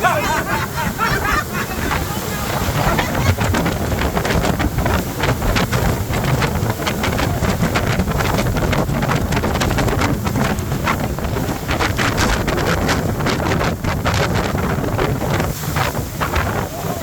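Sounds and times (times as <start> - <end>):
boat engine rumble: 0.0 - 17.0
rushing water: 0.0 - 17.0
wind buffeting microphone: 0.0 - 17.0.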